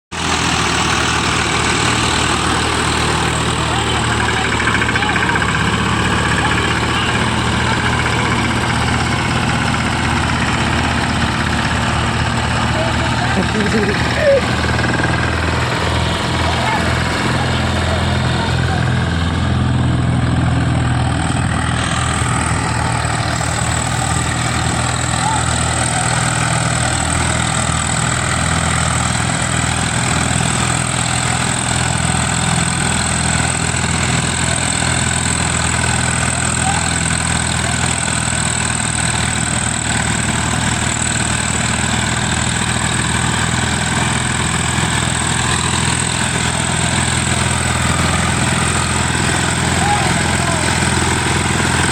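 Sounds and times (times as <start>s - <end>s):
tractor engine droning: 0.1s - 51.9s.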